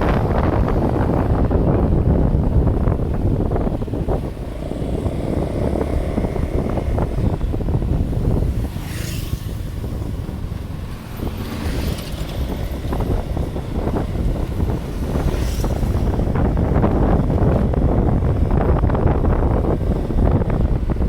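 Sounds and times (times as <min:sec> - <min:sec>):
steady low rumble: 0:00.0 - 0:21.0
wind buffeting microphone: 0:00.0 - 0:21.0.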